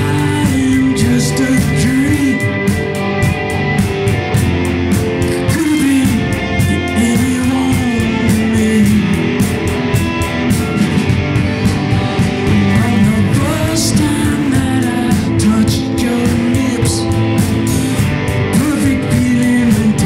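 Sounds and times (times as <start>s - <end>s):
bass guitar: 0.0s - 20.0s
drum kit with cymbal strokes: 0.0s - 20.0s
electric guitars: 0.0s - 20.0s
lead electric guitar with bent notes: 0.0s - 20.0s.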